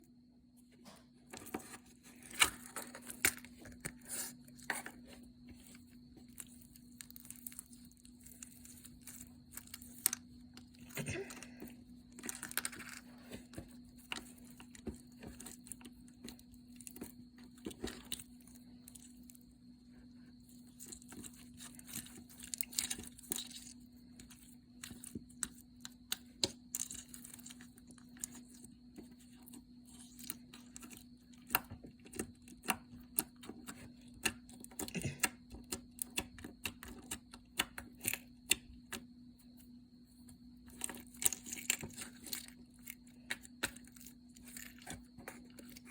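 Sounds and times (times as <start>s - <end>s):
faint steady hum: 0.0s - 45.9s
slime squishing by hand: 1.4s - 39.0s.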